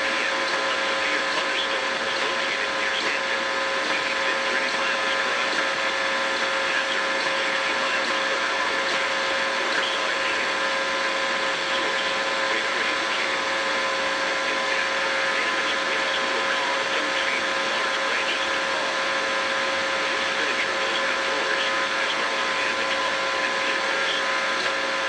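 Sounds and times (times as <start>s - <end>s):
constant hum tone: 0.0s - 25.0s
radio static hiss: 0.0s - 25.0s.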